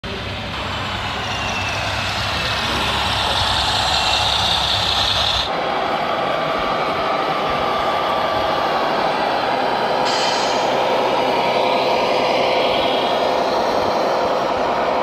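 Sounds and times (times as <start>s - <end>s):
vehicle running with rumble and hiss: 0.0s - 15.0s.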